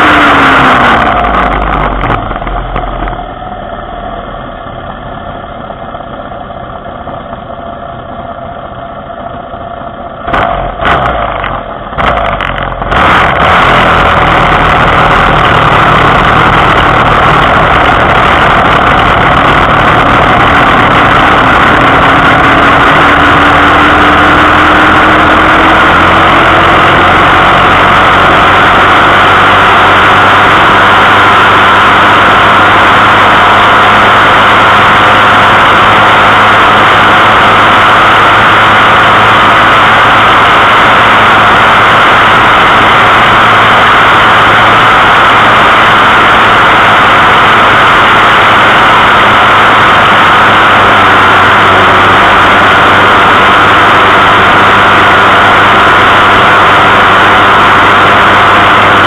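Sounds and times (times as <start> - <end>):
small vehicle engine: 0.0 - 59.0.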